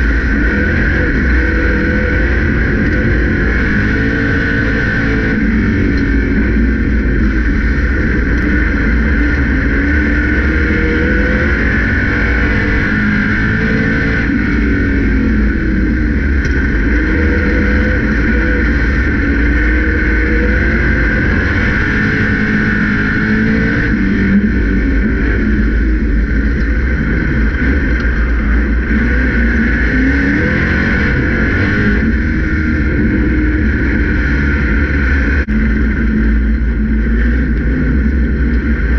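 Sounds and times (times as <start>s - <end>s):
race car engine: 0.0s - 38.9s
steady low rumble: 0.0s - 38.9s.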